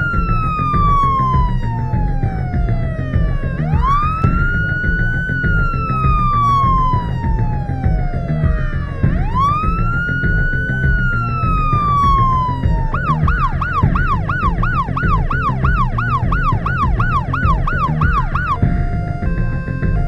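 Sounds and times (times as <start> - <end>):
emergency vehicle siren: 0.0 - 20.0
steady low rumble: 0.0 - 20.0.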